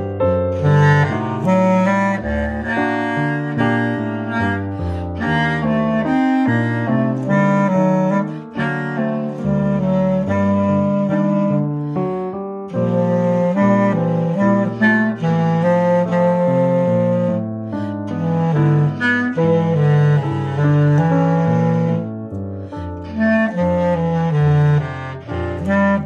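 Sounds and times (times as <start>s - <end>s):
bass clarinet melody: 0.0s - 26.0s.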